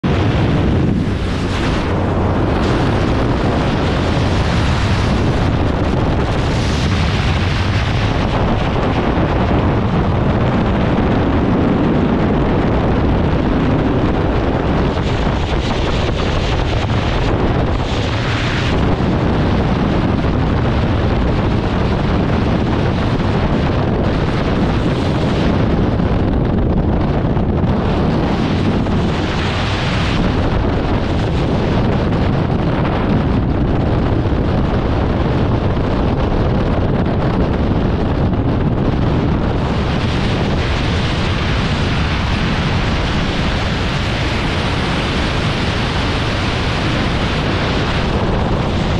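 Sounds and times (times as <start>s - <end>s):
wind roaring over microphone: 0.0s - 48.9s.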